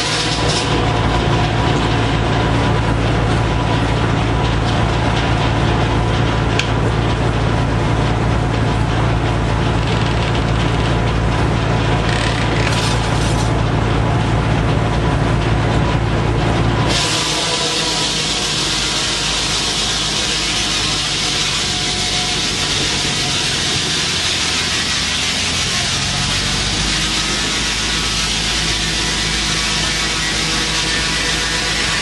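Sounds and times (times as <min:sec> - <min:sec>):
circular saw cutting log: 0:00.0 - 0:14.4, 0:16.0 - 0:32.0
low drive hum: 0:00.0 - 0:32.0.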